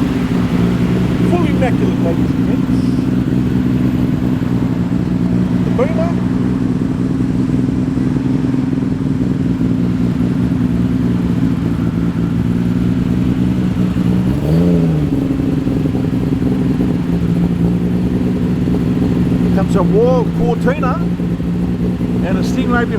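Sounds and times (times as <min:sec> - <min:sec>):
car engine idling: 0:00.0 - 0:22.9
engine throttle blip: 0:00.0 - 0:22.9.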